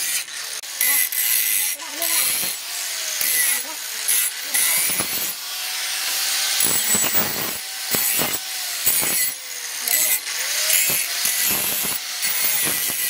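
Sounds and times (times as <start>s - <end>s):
angle grinder grinding steel: 0.0s - 13.0s.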